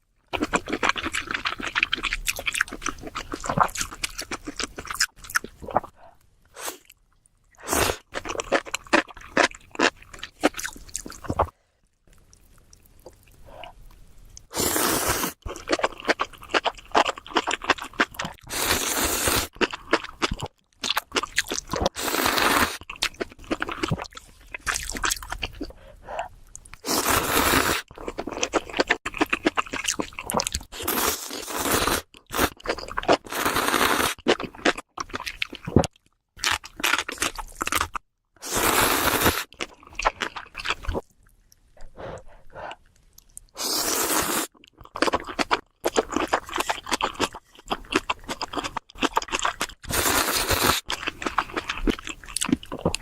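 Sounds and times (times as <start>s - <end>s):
crunchy food being chewed: 0.3s - 6.0s, 7.9s - 14.5s, 15.3s - 22.0s, 22.7s - 25.8s, 26.5s - 38.0s, 39.1s - 41.9s, 42.7s - 53.0s.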